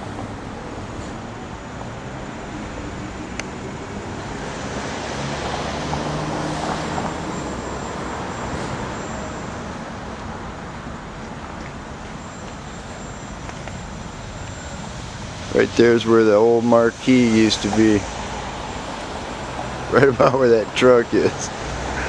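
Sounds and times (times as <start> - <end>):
engine hum: 0.0 - 22.0
street noise: 0.0 - 22.0.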